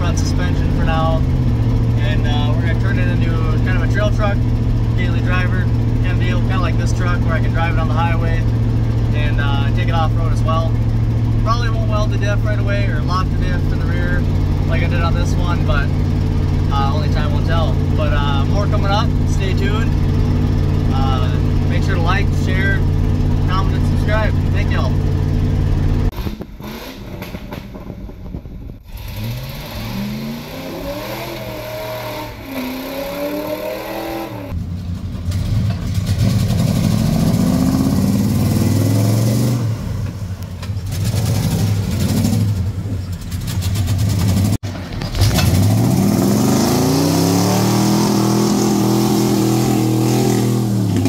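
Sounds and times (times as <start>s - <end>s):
pickup truck engine revving: 0.0s - 27.9s, 28.8s - 34.6s, 35.3s - 51.0s.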